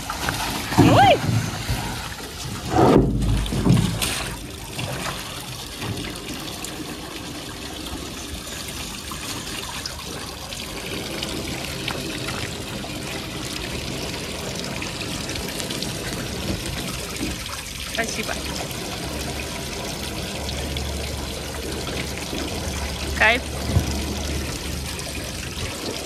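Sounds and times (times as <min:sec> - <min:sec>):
water pouring from hose: 0:00.0 - 0:26.0
water splashing: 0:00.0 - 0:26.0.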